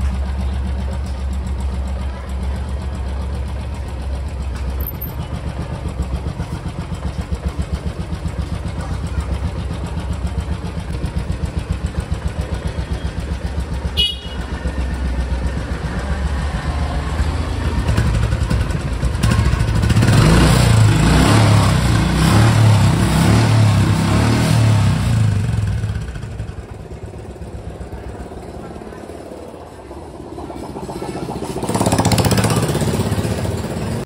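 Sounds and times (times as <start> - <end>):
motorcycle engine idling and revving: 0.0 - 34.0.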